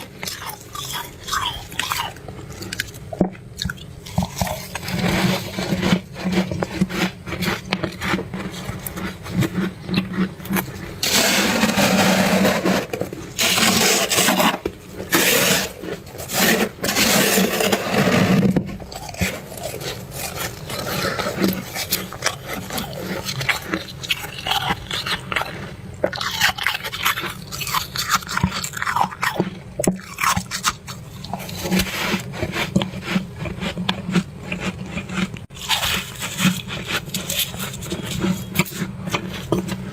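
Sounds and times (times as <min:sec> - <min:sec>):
freezer frost scraped and crunched: 0:04.0 - 0:39.9.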